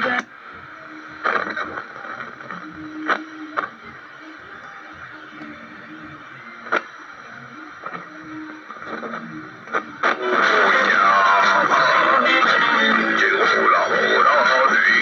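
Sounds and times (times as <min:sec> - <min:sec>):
faint broken radio signal: 0:00.0 - 0:15.0
guitar music on radio: 0:00.0 - 0:15.0
radio static hiss: 0:00.0 - 0:15.0.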